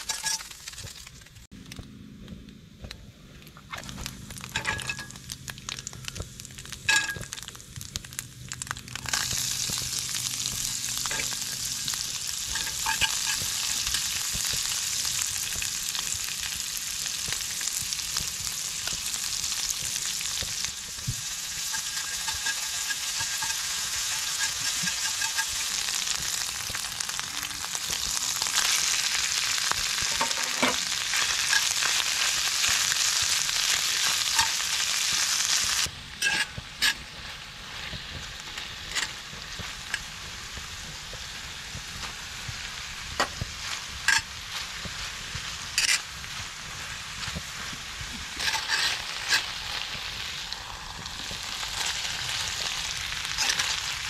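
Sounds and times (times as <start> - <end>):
food sizzling in oil: 0.0 - 1.2, 3.8 - 54.0.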